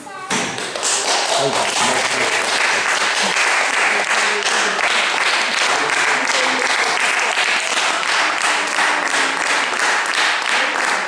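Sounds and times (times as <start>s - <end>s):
people applauding: 0.5s - 11.0s.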